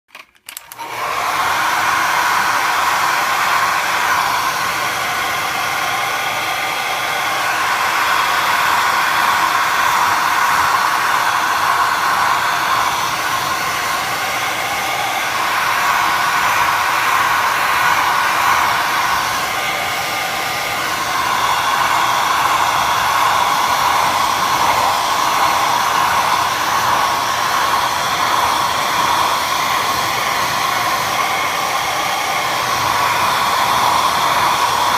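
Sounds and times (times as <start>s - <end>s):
hair dryer running: 0.5s - 34.9s.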